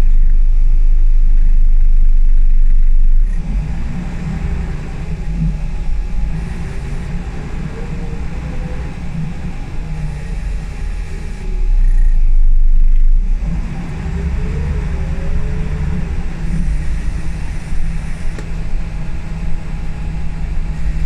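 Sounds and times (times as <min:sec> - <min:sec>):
bus engine: 0:00.0 - 0:21.0
heavy low rumble: 0:00.0 - 0:21.0
road noise: 0:00.0 - 0:21.0.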